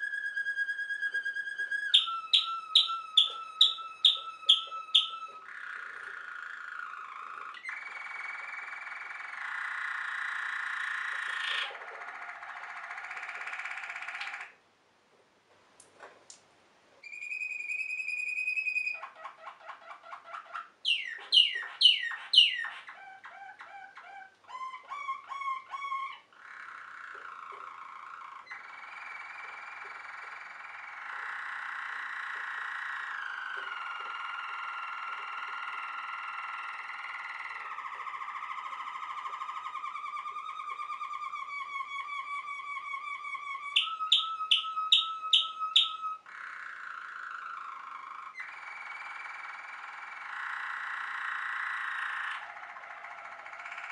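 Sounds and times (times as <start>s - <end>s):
canary singing: 0.0s - 14.6s, 17.0s - 53.9s.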